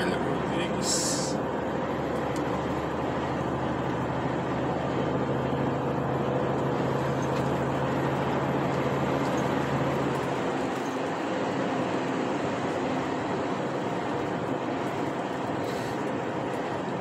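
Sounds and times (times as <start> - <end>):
road noise: 0.0 - 17.0
truck engine drone: 0.0 - 17.0.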